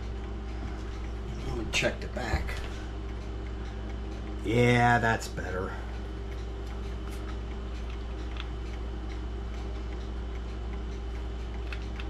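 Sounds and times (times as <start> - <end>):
clocks ticking: 0.0 - 12.0
steady low hum: 0.0 - 12.0.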